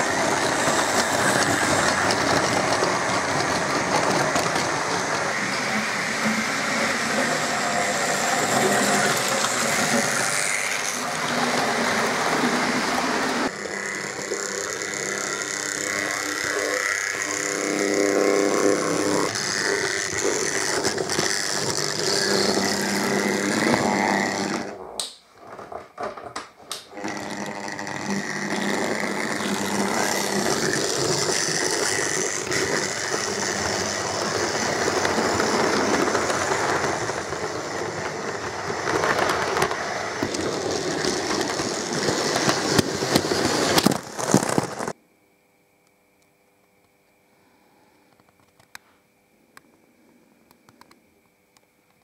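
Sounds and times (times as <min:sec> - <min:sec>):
model train wheels rattling: 0:00.0 - 0:24.7, 0:27.0 - 0:45.0
electric motors humming: 0:00.0 - 0:25.0, 0:26.7 - 0:45.0.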